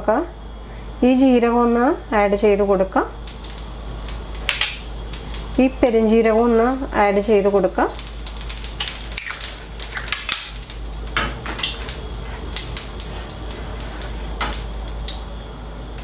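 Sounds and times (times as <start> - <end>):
seeds popping in hot oil: 2.6 - 16.0.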